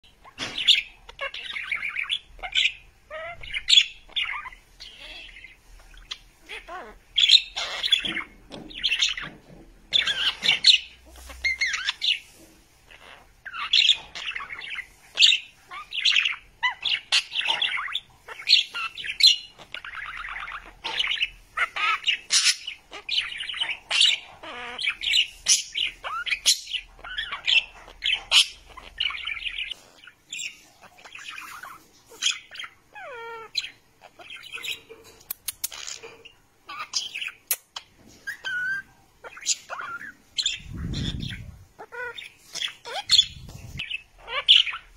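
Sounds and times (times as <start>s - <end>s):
budgerigars chattering and warbling: 0.0s - 44.9s.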